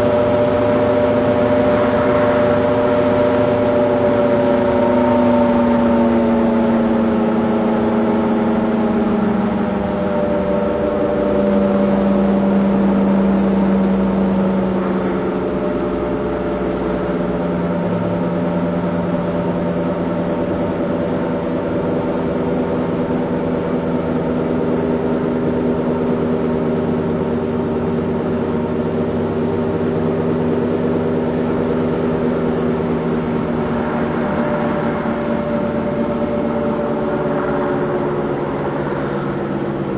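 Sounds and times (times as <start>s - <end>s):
car engine droning hum: 0.0s - 39.9s.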